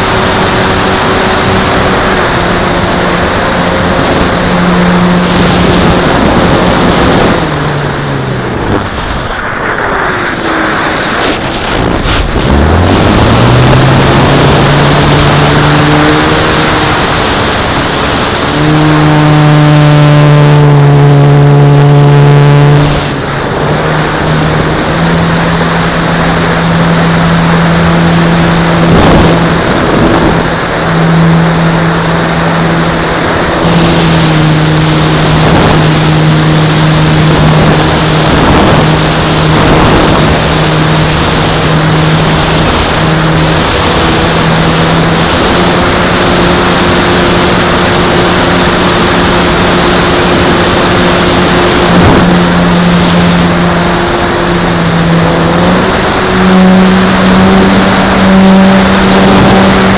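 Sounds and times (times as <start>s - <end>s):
model plane engine and propeller: 0.0s - 59.9s
wind rushing over microphone: 0.0s - 59.9s.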